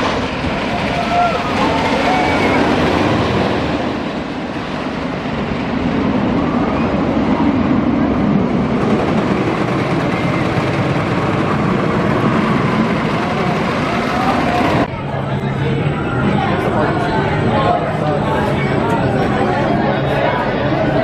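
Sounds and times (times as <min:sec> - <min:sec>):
roller coaster rumbling on track: 0:00.0 - 0:21.0.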